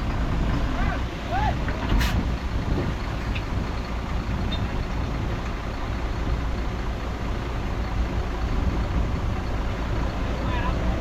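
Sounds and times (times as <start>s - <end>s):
diesel earthmover engine rumbling: 0.0s - 11.0s.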